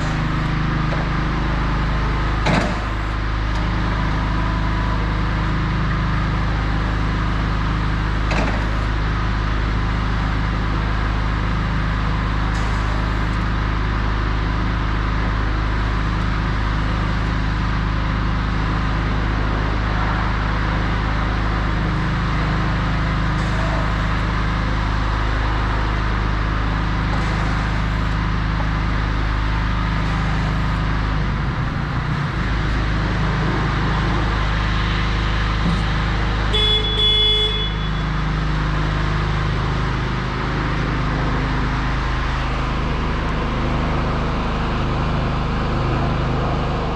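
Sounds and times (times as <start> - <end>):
electric motors humming: 0.0 - 46.9.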